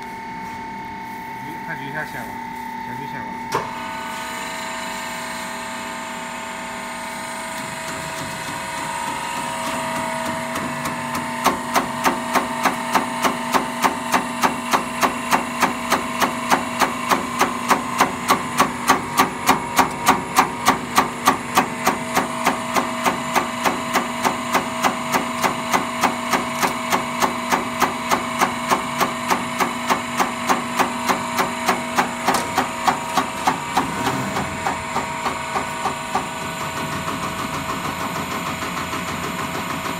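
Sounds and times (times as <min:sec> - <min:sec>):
pump humming and whining: 0:00.0 - 0:39.9.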